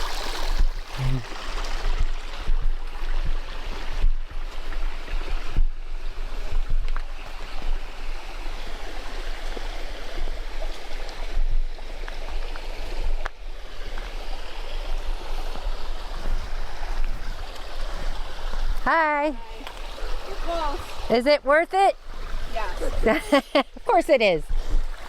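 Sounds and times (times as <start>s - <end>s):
creek water rushing over rocks: 0.0s - 25.0s.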